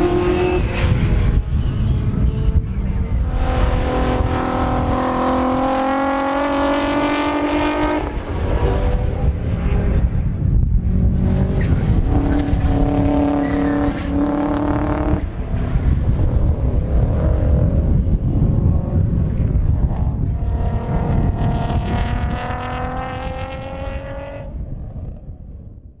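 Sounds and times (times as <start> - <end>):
race car engines at full throttle: 0.0 - 25.9
wind buffeting microphone: 0.0 - 26.0.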